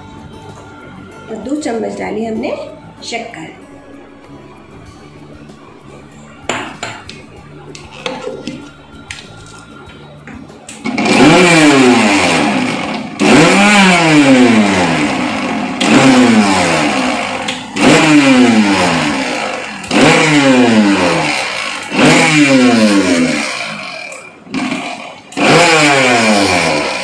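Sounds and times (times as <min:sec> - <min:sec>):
mixer grinder motor whining: 0:03.6 - 0:27.0.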